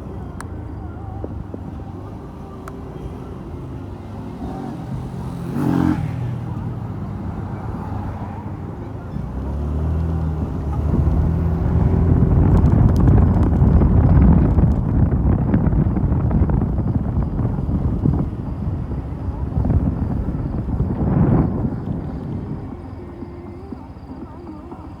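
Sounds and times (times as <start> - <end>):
motorcycle engine accelerating: 2.6 - 25.0
wind on microphone: 3.3 - 25.0.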